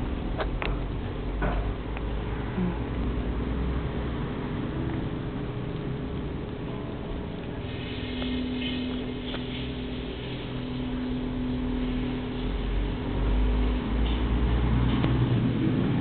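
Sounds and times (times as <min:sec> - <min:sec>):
engine-like hum: 0:00.0 - 0:16.0
low rumble: 0:00.0 - 0:16.0.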